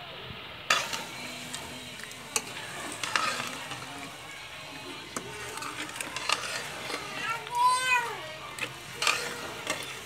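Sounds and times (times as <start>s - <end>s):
food sizzling in a wok: 0.6s - 10.0s
metal spoon scraping and clinking: 0.7s - 7.5s, 8.3s - 10.0s.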